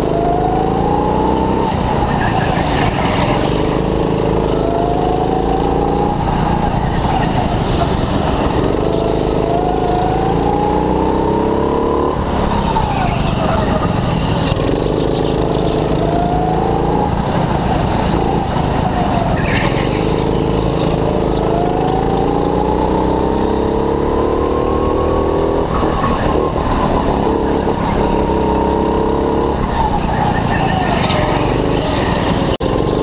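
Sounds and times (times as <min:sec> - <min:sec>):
go-kart engine racing: 0:00.0 - 0:33.0.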